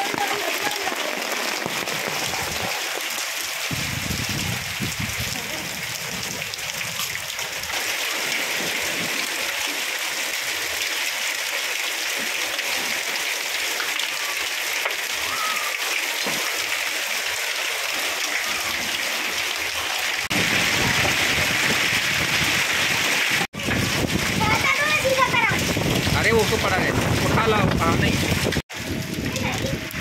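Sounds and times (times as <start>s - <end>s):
heavy rain and hail pelting: 0.0s - 30.0s.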